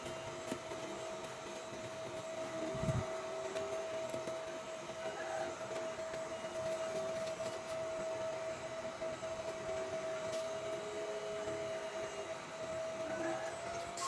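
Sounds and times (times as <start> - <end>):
laser cutter whine: 0.0 - 14.0
motor and fan hiss: 0.0 - 14.0.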